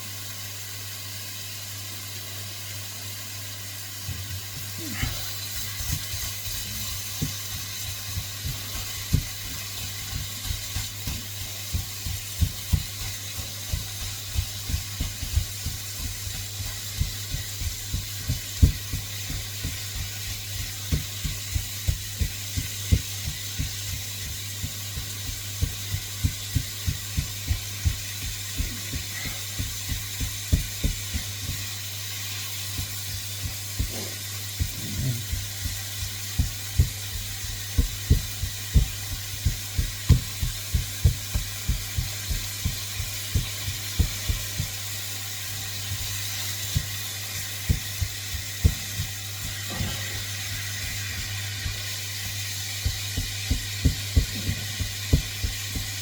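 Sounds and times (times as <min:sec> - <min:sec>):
meat sizzling in a wok: 0:00.0 - 0:56.0.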